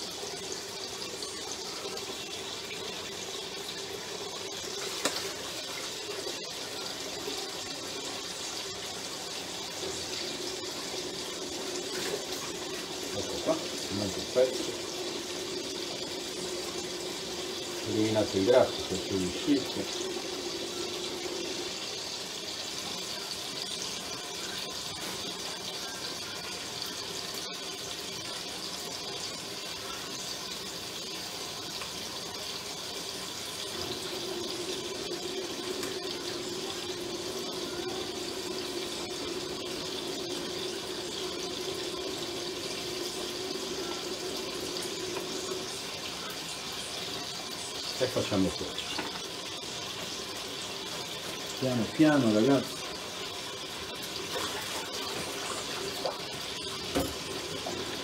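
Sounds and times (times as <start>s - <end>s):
pork rind sizzling in a pot: 0.0s - 58.0s.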